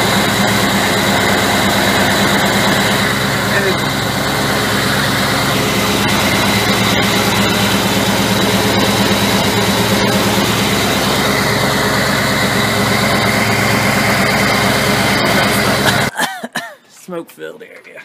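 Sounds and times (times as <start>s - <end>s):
engine idling: 0.0s - 16.1s.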